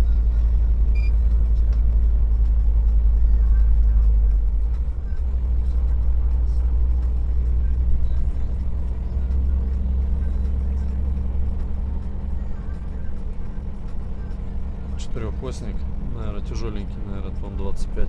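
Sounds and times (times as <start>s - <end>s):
road noise: 0.0s - 18.0s
truck diesel engine humming: 0.0s - 18.0s.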